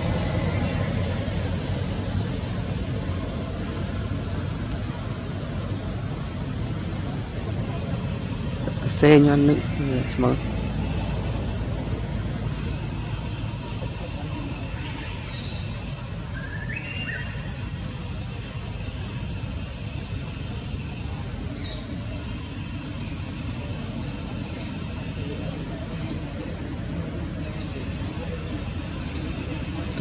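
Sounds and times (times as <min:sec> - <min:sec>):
low background noise: 0:00.0 - 0:30.0.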